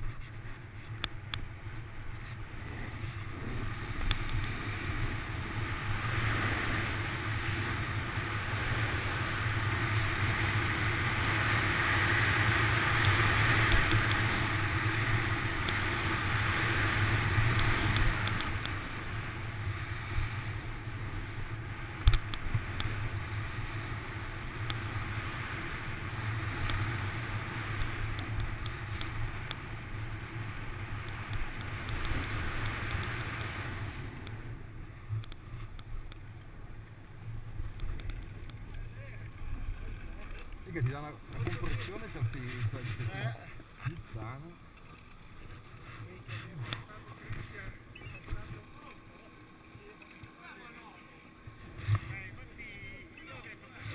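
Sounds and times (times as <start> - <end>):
wind rushing over camera: 0.0 - 44.2.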